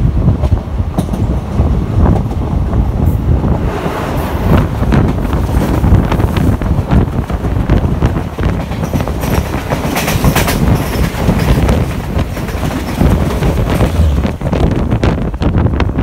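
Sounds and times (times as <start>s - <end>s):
trains passing at speed: 0.0s - 16.0s
wheels clickety-clack: 0.3s - 2.4s, 5.0s - 15.7s.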